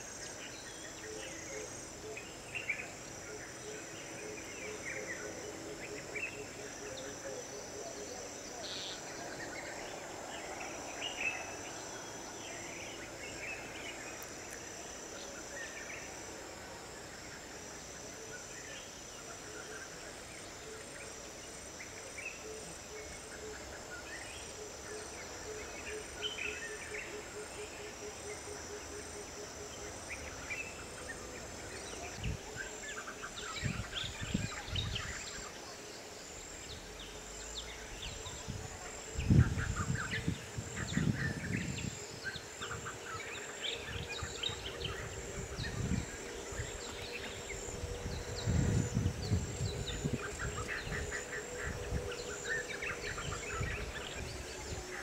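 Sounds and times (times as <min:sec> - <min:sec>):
high-pitched insect drone: 0:00.0 - 0:55.0
pulsing insect chirr: 0:00.0 - 0:55.0.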